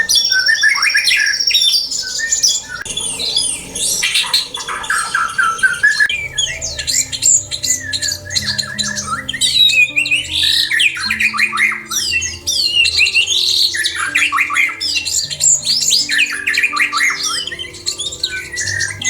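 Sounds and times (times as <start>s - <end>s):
birds chirping and squawking: 0.0s - 19.0s
soft background music: 0.0s - 19.0s.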